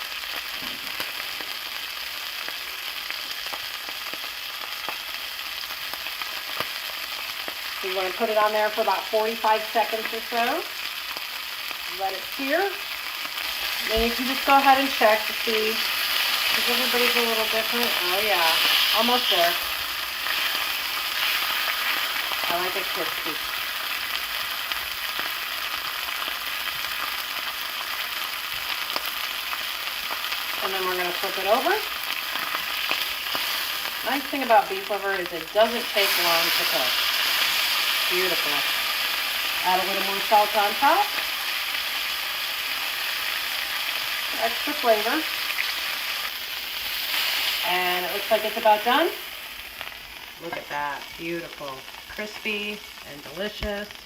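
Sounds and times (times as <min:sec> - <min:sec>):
liver sizzling in grease: 0:00.0 - 0:54.0.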